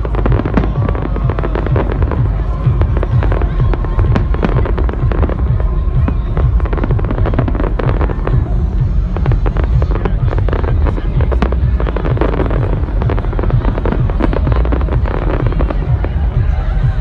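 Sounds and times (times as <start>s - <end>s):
electronic dance music: 0.0s - 17.0s
fireworks bangs and crackles: 0.0s - 17.0s.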